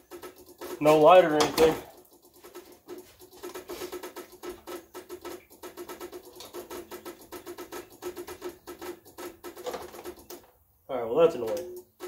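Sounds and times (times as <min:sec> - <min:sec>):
rapid electrical clicking: 0:00.0 - 0:10.5, 0:11.2 - 0:12.0.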